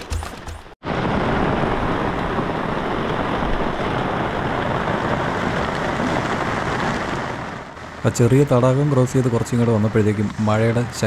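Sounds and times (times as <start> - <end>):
heavy rain falling: 0.8 - 11.0.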